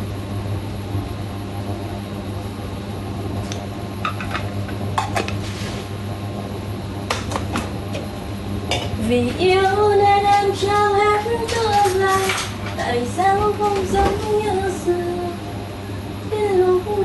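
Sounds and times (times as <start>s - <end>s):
electrical hum of kitchen appliance: 0.0s - 17.0s.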